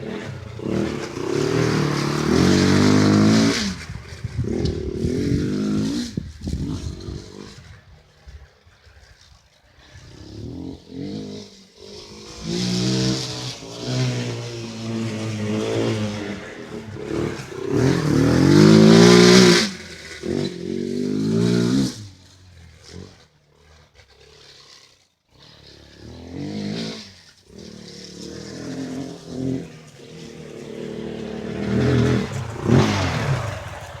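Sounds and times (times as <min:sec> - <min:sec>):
quad bike engine revving: 0:00.0 - 0:34.0.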